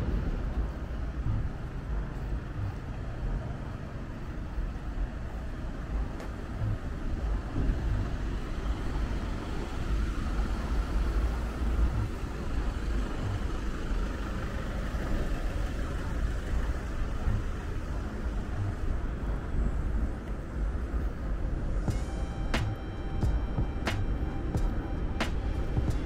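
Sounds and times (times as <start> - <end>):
road traffic: 0.0 - 26.0
wind buffeting microphone: 0.0 - 26.0.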